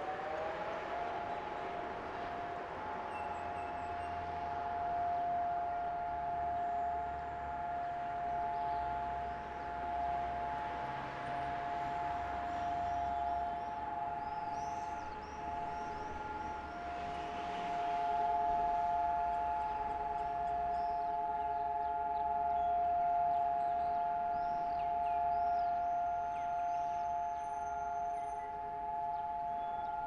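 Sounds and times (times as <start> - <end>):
siren steady tone: 0.0 - 30.0.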